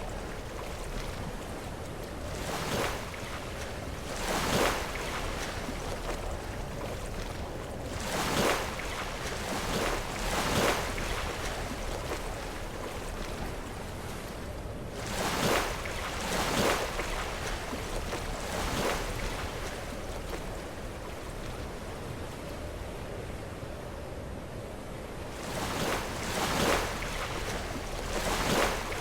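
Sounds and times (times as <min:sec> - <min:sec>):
surf washing: 0:00.0 - 0:24.1, 0:25.2 - 0:29.0.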